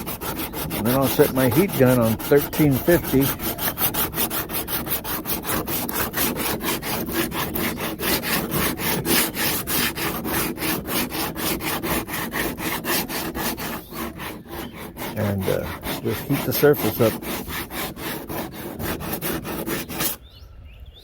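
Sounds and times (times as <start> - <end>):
sandpaper rubbing on plastic: 0.0 - 20.2.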